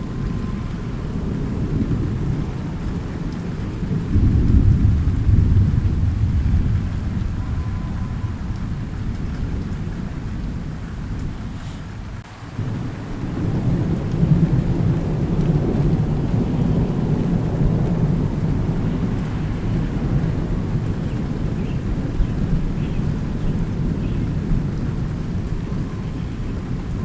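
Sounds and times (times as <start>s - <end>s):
low rumble of thunder: 0.0s - 27.0s
steady rain: 0.0s - 27.0s.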